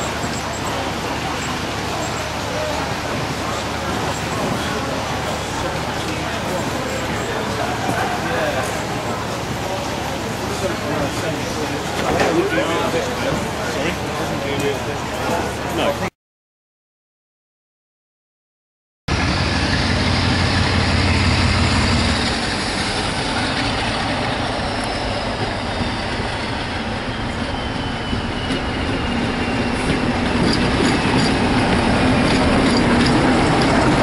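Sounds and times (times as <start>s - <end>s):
diesel train engine: 0.0s - 16.1s, 19.1s - 34.0s.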